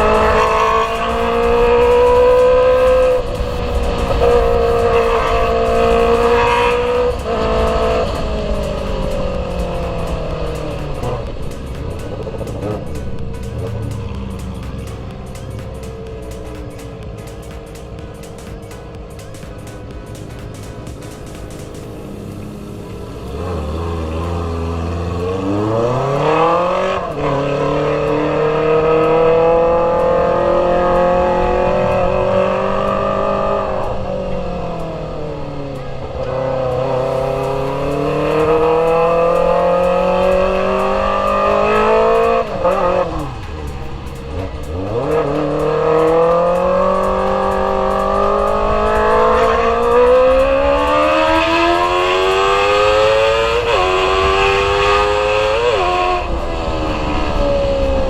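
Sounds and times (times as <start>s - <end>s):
motorcycle engine revving hard: 0.0s - 18.2s, 22.0s - 34.2s, 36.2s - 58.0s.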